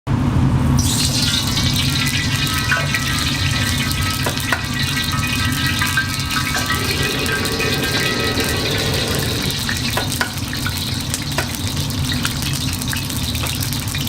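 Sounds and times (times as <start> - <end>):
rice sizzling in a hot pan: 0.6 - 14.0.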